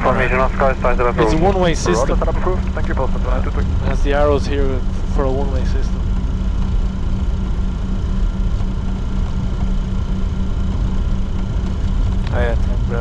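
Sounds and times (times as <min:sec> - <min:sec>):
constant low hum: 0:00.0 - 0:13.0
jet engines idling in cockpit: 0:00.0 - 0:13.0.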